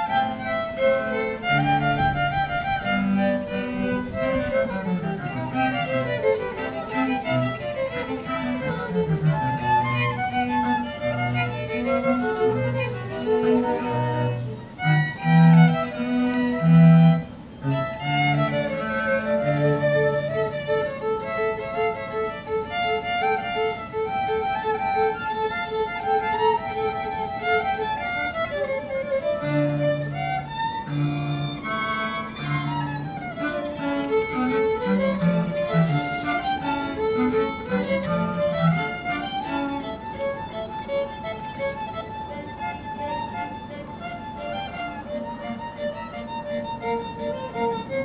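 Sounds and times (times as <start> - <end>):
string orchestra playing: 0.0 - 48.0.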